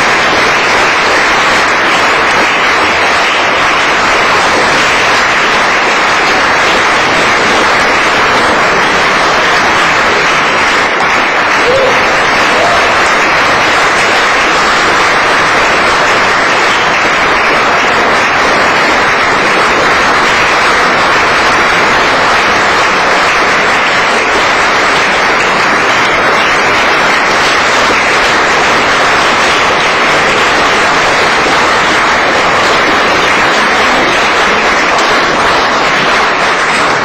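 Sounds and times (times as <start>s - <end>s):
audience applauding: 0.0s - 37.0s.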